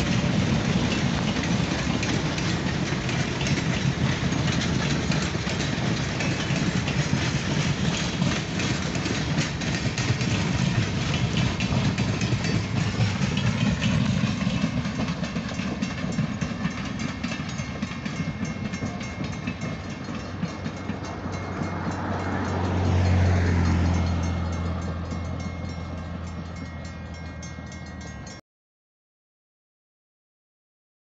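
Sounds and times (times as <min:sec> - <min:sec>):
low rumble of train: 0:00.0 - 0:28.4
train wheels clicking over rail joints: 0:00.0 - 0:28.4.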